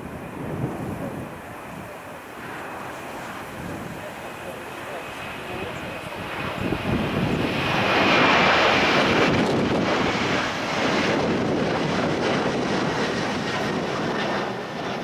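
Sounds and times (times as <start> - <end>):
wind buffeting microphone: 0.0 - 2.5, 3.2 - 15.0
jet airliner engine noise: 0.0 - 15.0.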